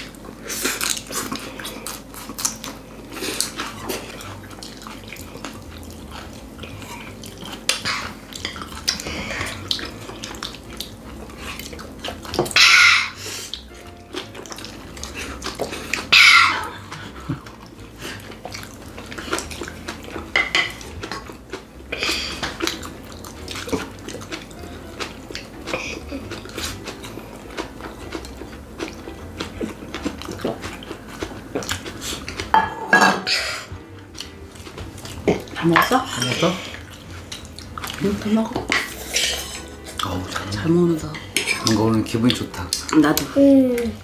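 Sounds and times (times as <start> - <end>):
chewing: 0.0 - 32.6, 33.3 - 44.0.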